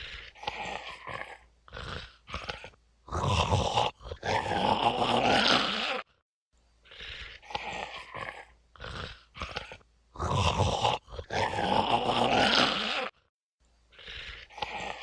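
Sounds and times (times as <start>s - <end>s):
creature growling and gnawing: 0.0s - 6.2s, 6.9s - 13.3s, 14.0s - 15.0s.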